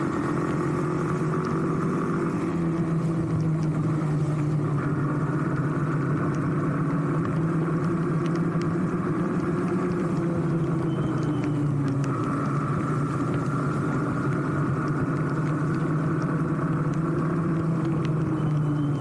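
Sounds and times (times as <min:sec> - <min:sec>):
motorcycle engine running: 0:00.0 - 0:19.0
tyres hissing on wet road: 0:00.0 - 0:19.0.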